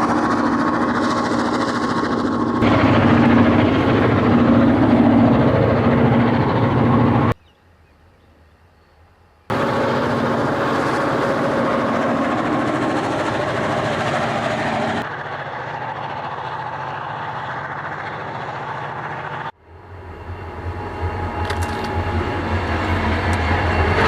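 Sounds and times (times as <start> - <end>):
diesel locomotive engines: 0.0 - 24.0.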